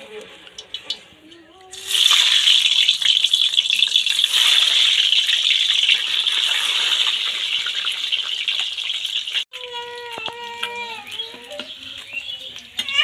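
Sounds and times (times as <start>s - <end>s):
eggs sizzling in hot oil: 1.6s - 13.0s.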